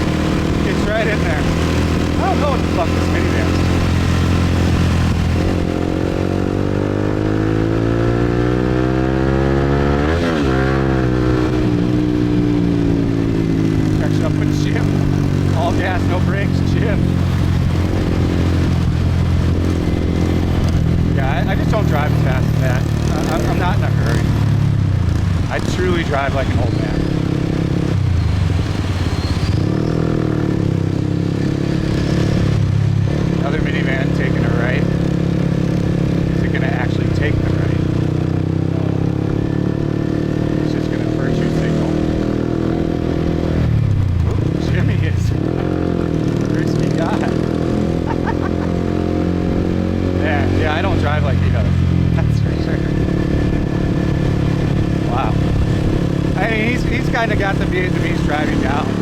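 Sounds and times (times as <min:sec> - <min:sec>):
motorbike engine accelerating: 0:00.0 - 0:59.0
road noise: 0:00.0 - 0:59.0.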